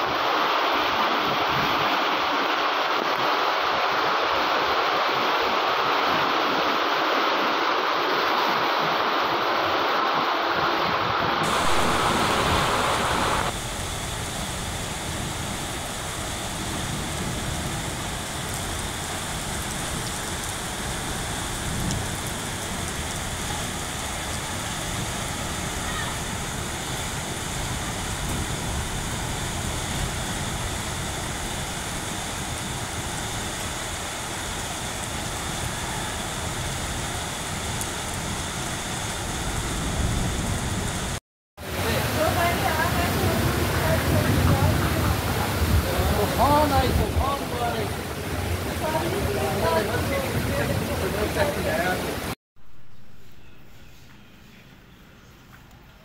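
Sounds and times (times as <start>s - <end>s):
floodwater hissing down a street: 0.0s - 52.4s
floodwater rushing: 0.0s - 52.4s.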